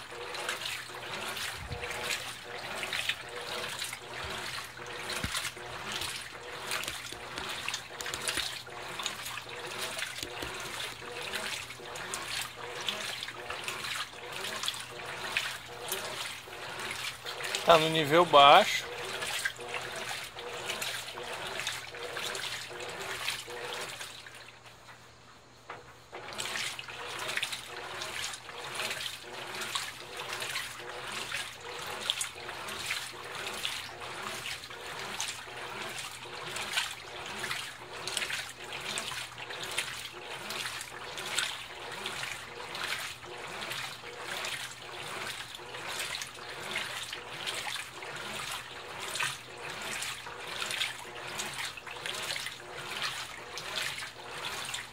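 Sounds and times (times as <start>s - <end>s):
washing machine hum: 0.0s - 54.9s
washing machine water sloshing: 0.0s - 54.9s.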